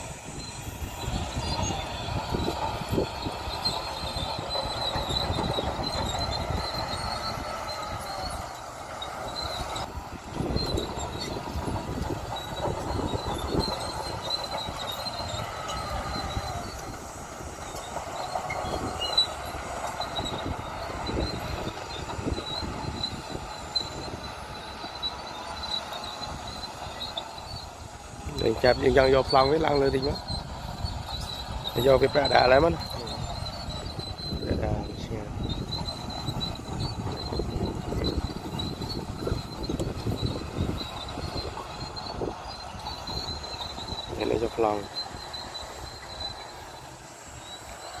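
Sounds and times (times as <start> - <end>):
bulldozer engine rumbling: 0.0 - 48.0
steel tracks squealing and clanking: 0.0 - 48.0.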